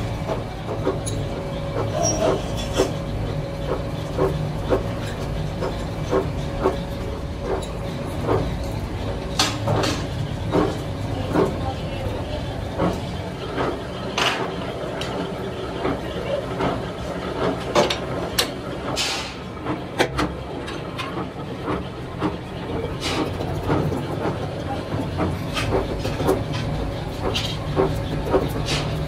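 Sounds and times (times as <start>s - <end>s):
rubber mixing mill droning: 0.0s - 29.0s.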